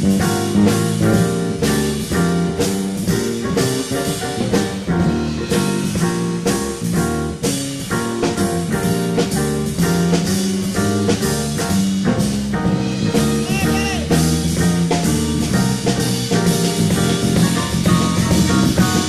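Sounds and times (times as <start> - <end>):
big band playing jazz: 0.0 - 19.0.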